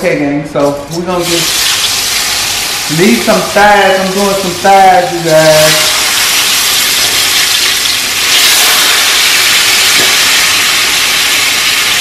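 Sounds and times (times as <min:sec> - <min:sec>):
chicken sizzling in oil: 0:01.2 - 0:12.0.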